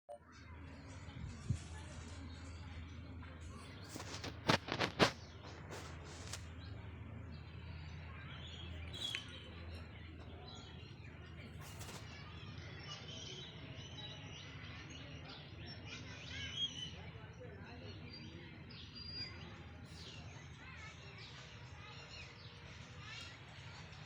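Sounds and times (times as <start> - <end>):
faint bird chirps: 2.0 - 24.0.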